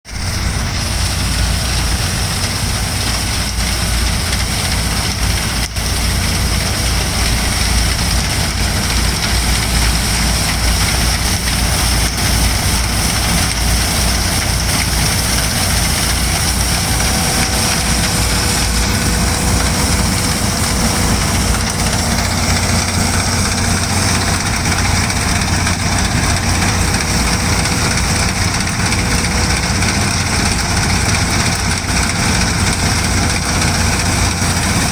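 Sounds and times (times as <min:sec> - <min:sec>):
combine harvester engine drone: 0:00.1 - 0:34.9.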